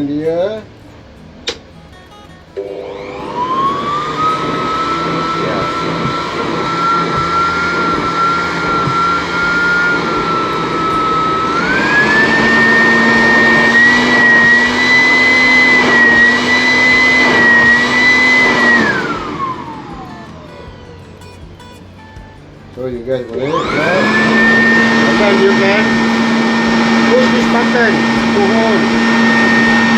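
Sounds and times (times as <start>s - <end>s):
blower vacuum motor whine: 0.7s - 29.9s.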